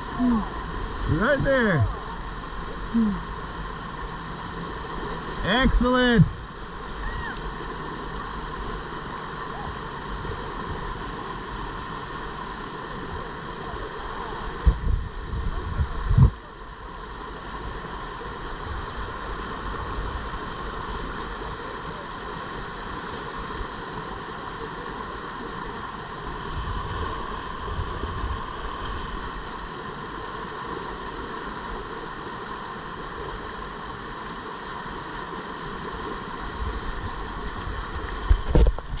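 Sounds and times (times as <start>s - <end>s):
whitewater rushing over rocks: 0.0s - 39.0s.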